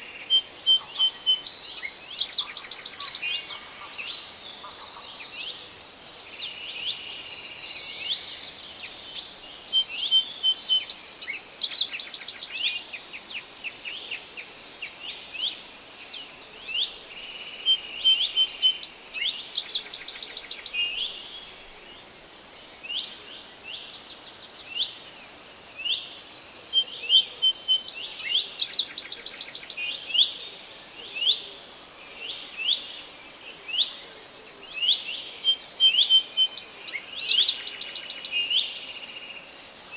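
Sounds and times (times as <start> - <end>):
faint steady hiss: 0.0 - 39.9
songbirds singing and calling: 0.0 - 39.9.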